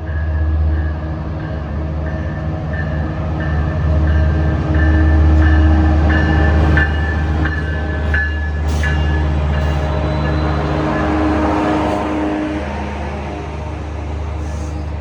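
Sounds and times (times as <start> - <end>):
diesel train engine rumble: 0.0 - 15.0
train bell ringing: 0.1 - 15.0.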